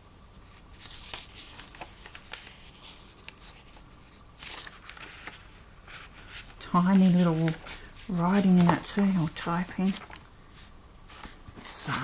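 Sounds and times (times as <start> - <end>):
book pages turning: 0.4 - 12.0.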